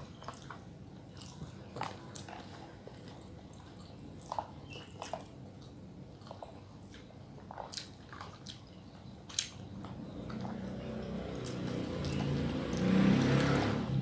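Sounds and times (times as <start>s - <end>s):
wet chewing and mouth smacks: 0.0s - 13.5s
low rumbling background noise: 0.0s - 14.0s.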